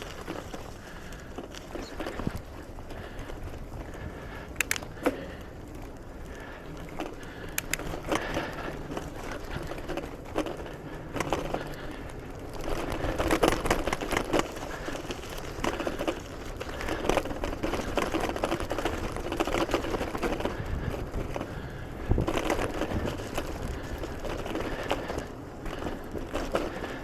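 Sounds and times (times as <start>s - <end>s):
bicycle clicks and rattles: 0.0s - 27.0s
bicycle tyre rumble: 0.0s - 27.0s.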